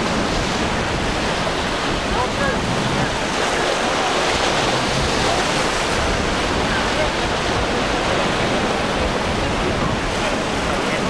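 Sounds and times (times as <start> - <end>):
surf breaking around a hull: 0.0 - 11.0
wind on the microphone: 0.0 - 11.0.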